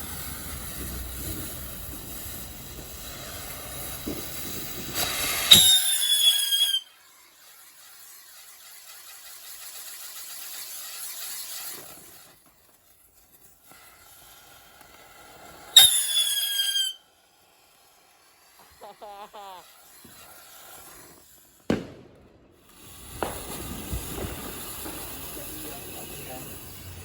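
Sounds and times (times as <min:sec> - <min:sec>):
firework hiss: 0:00.0 - 0:27.0
whistling fireworks: 0:00.0 - 0:27.0.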